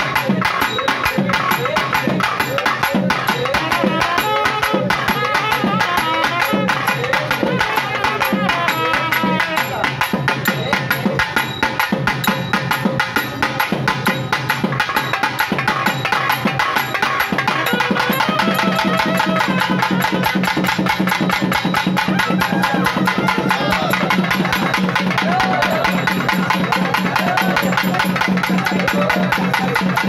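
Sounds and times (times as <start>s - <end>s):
fast loud drumming: 0.0s - 30.0s.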